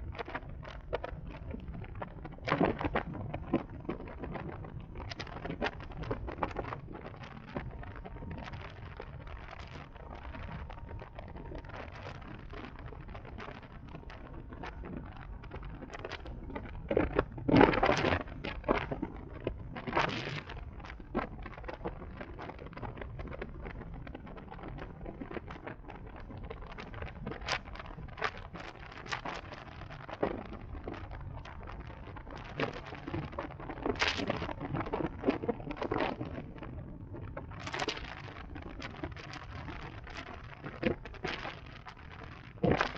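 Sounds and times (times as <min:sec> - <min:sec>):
sharp crackles: 0:00.0 - 0:42.9
wind and road noise: 0:00.0 - 0:42.9.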